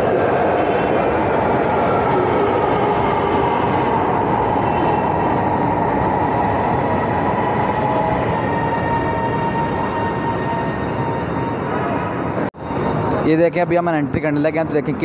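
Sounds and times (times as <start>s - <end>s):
electric train wheel rush: 0.0s - 15.0s.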